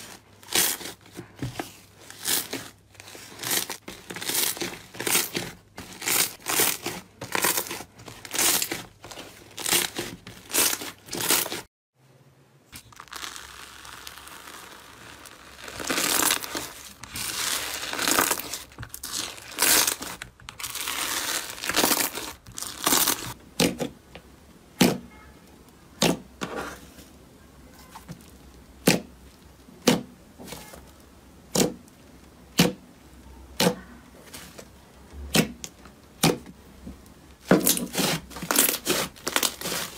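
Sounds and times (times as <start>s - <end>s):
crackly slime squelches: 0.0s - 11.7s, 12.7s - 39.9s.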